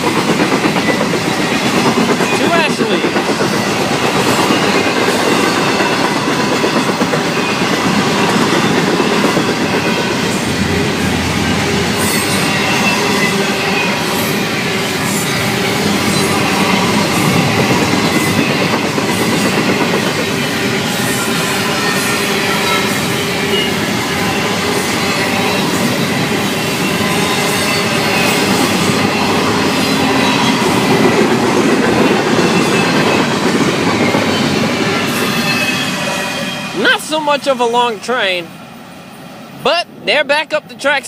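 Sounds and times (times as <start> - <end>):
clickety-clack over rail joints: 0.0 - 35.9
train wheels rumbling on rail: 0.0 - 41.0.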